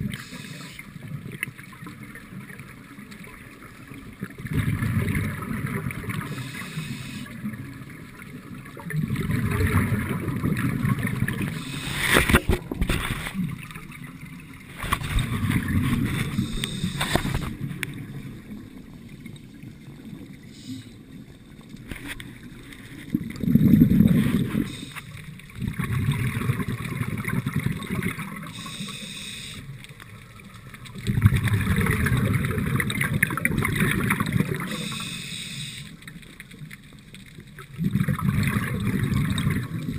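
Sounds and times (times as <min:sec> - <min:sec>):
scuba regulator bubbles: 0:00.0 - 0:39.9.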